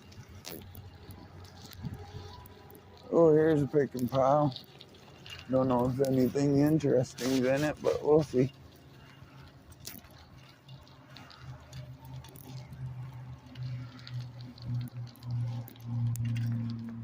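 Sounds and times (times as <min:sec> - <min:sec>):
bicycle clicking and rattling: 0:00.0 - 0:17.0.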